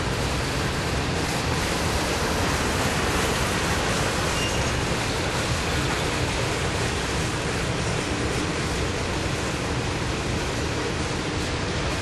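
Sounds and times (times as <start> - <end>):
steel wheels rolling on rail: 0.0 - 12.0.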